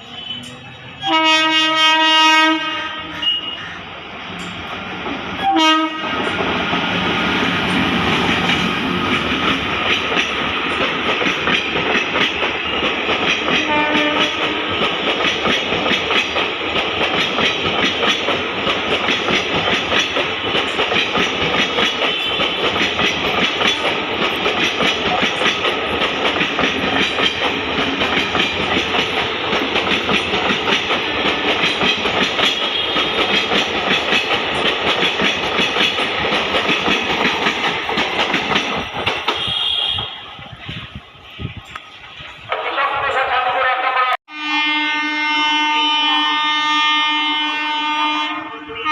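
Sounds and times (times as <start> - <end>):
train wheels clattering: 3.0 - 42.7.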